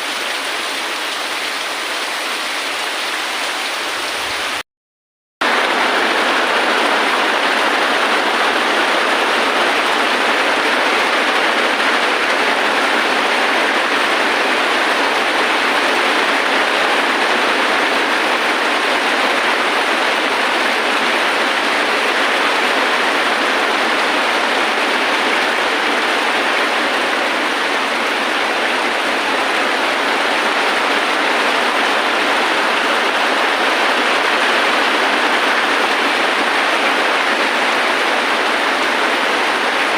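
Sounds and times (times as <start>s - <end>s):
heavy rain hissing: 0.0s - 4.6s, 5.4s - 39.9s.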